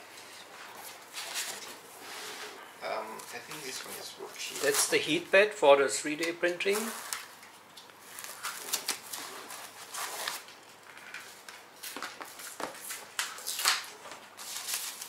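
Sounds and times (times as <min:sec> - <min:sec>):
plastic wrap and foam rustling: 0:00.4 - 0:05.4, 0:06.2 - 0:15.0.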